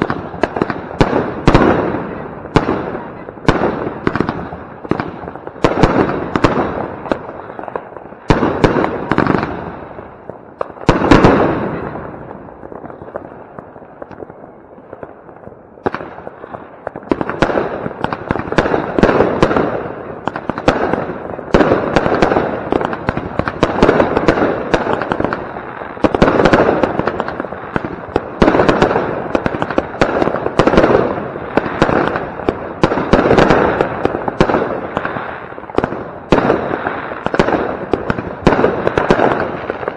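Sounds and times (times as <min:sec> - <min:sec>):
firework crackle: 0:00.0 - 0:39.9
fireworks shots and bursts: 0:00.0 - 0:39.9.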